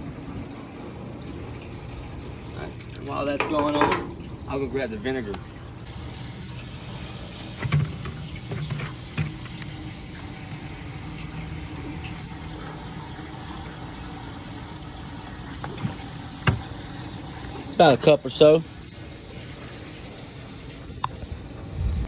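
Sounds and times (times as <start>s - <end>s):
hose water running into metal tank: 0.0s - 22.0s.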